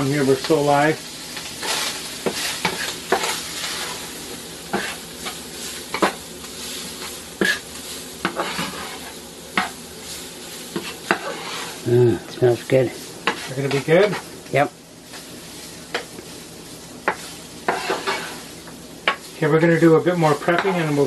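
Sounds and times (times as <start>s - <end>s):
ground beef sizzling in a frying pan: 0.0s - 21.0s
spatula scraping a pan: 1.5s - 11.9s, 12.9s - 14.3s, 15.0s - 21.0s.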